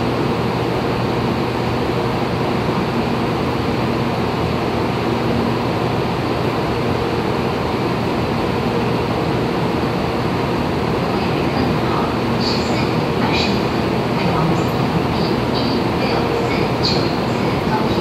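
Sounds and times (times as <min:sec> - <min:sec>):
train air conditioning drone: 0:00.0 - 0:18.0.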